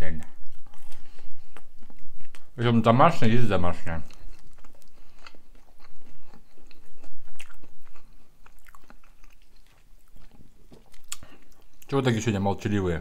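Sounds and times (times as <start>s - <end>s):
people chewing and biting: 0.1s - 12.0s.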